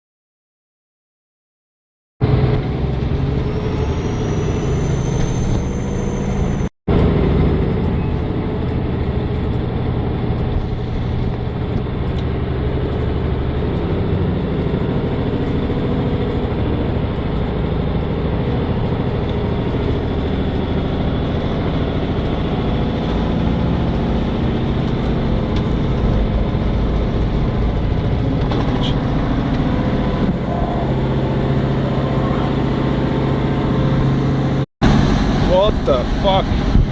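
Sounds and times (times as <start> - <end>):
road noise inside cab: 2.2 - 36.9
truck diesel engine rumbling: 2.2 - 36.9.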